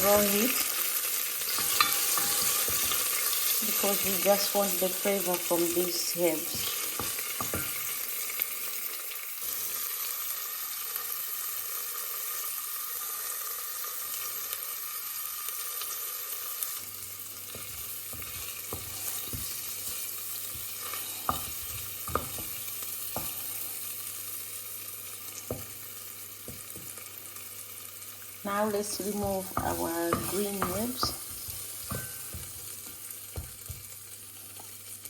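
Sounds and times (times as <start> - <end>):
herbs sizzling in a pot: 0.0 - 35.0.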